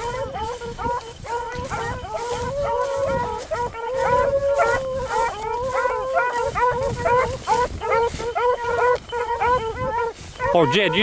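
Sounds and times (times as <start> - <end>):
dogs barking: 0.0 - 11.0
dogs howling: 0.0 - 11.0.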